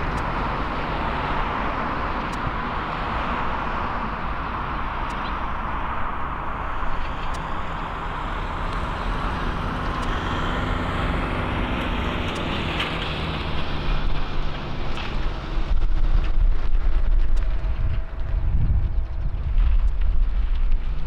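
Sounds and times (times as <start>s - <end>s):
jet engines roaring: 0.0s - 20.8s.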